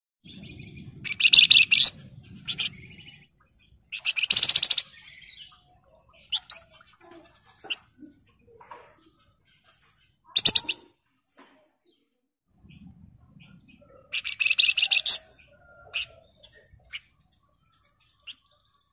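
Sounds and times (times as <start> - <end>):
songbird chattering trills: 0.3 - 10.9, 12.6 - 18.9.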